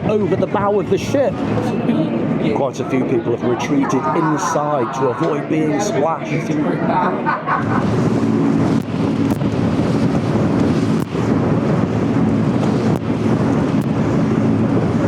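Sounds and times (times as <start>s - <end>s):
low rumble of boat: 0.0s - 15.0s
waves: 0.0s - 15.0s
wind buffeting microphone: 0.0s - 15.0s.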